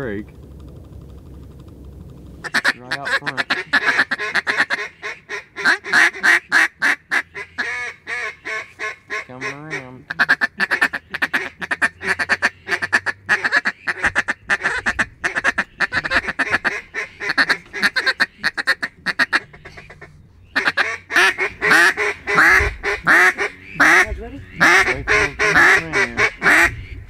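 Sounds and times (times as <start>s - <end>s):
duck calls quacking: 2.4s - 27.0s.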